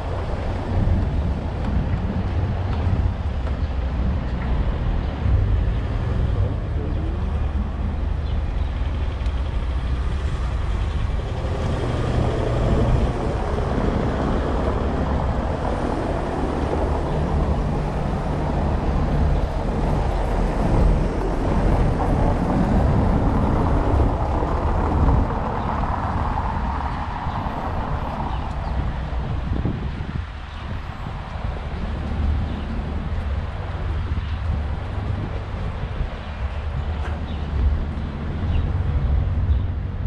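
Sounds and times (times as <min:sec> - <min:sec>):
deep engine hum: 0:00.0 - 0:40.0
vehicles passing: 0:00.0 - 0:40.0.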